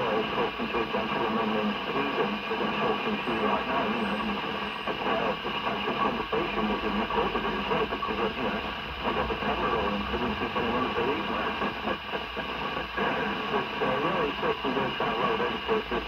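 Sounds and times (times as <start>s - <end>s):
person speaking over radio: 0.0s - 16.0s
radio static hiss: 0.0s - 16.0s.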